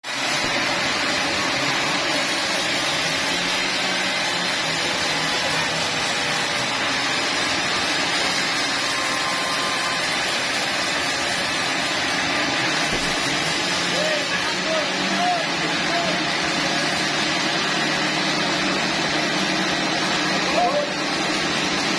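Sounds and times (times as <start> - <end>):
sawmill machinery running: 0.0 - 21.9.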